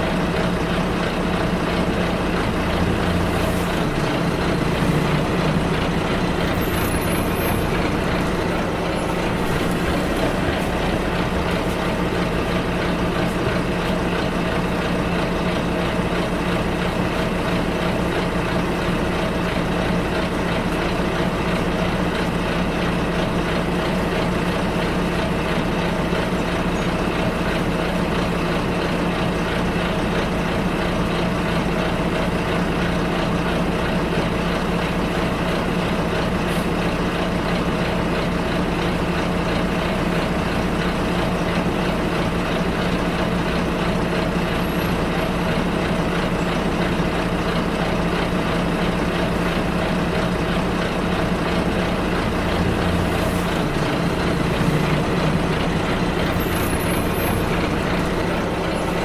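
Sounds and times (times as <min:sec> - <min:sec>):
bus engine and road drone: 0:00.0 - 0:59.0.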